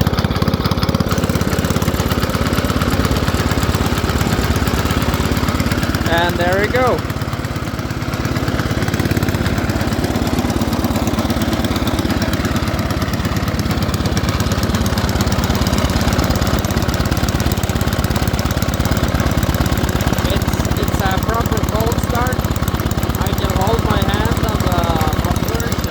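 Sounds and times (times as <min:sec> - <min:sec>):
snowblower engine running: 0:00.0 - 0:25.9.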